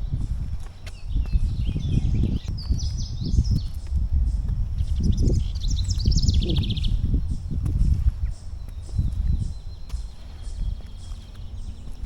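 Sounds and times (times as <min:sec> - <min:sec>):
faint bird calls chirping: 0:00.0 - 0:12.0
footsteps on forest trail: 0:00.0 - 0:12.0.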